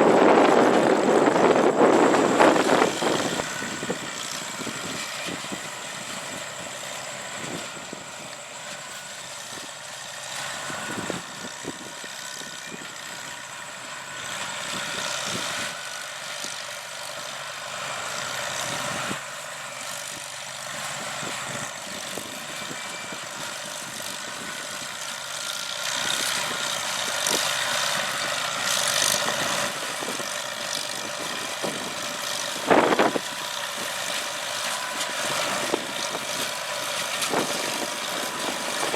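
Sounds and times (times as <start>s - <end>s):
hay baler engine running: 0.0s - 38.9s.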